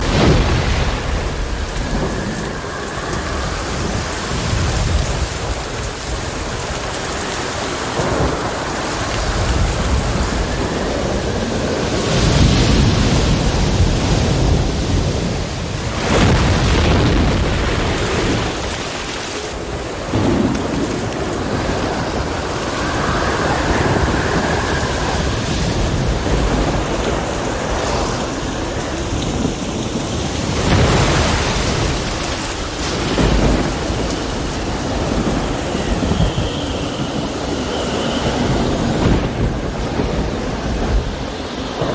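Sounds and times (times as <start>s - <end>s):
breaking waves: 0.0s - 41.9s
heavy rain: 0.0s - 41.9s
rumbling thunder: 0.0s - 41.9s.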